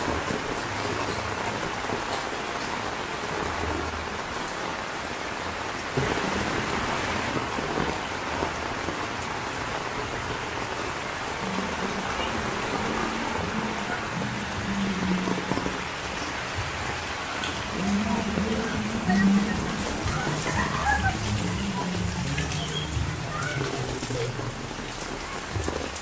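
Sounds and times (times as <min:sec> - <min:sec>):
heavy rain on street and tin roofs: 0:00.0 - 0:26.0.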